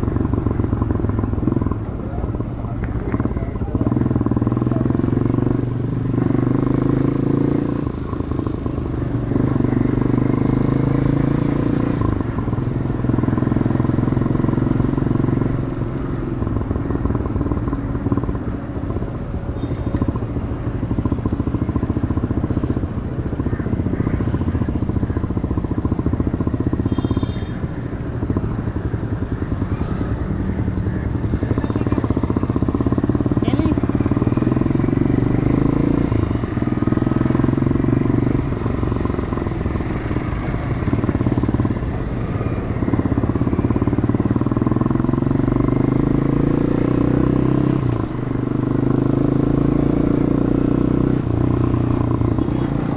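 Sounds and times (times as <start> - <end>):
motorcycle engine: 0.0 - 52.9.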